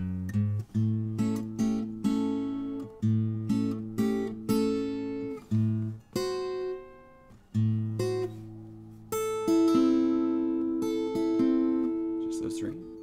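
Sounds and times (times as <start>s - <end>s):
acoustic guitar blues phrase: 0.0s - 13.0s.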